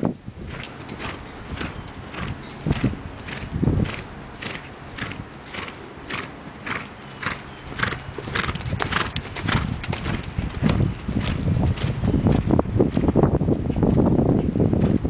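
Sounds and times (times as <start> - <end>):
horse hooves on dirt: 0.0 - 15.0.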